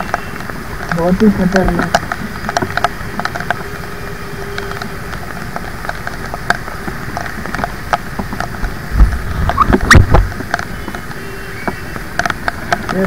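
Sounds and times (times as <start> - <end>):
motorbike engines idling: 0.0 - 13.0
raindrops ticking on helmet: 0.0 - 13.0
steady rain: 0.0 - 13.0
traffic: 0.0 - 13.0.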